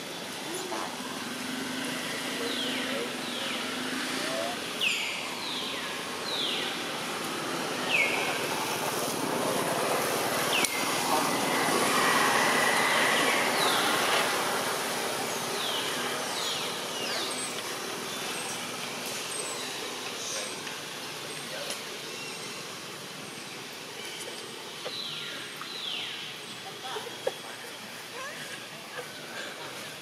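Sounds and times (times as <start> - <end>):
passing traffic background noise: 0.0 - 30.0.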